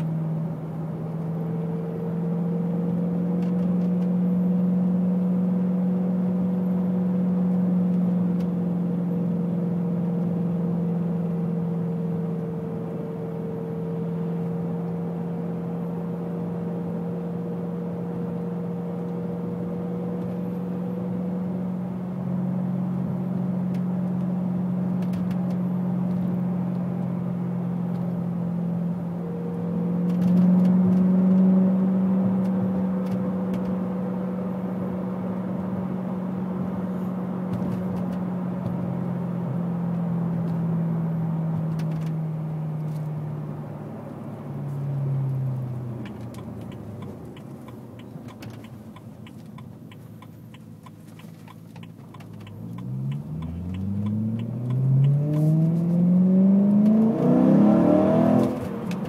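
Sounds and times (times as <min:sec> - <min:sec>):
car engine drone inside cabin: 0:00.0 - 0:59.0.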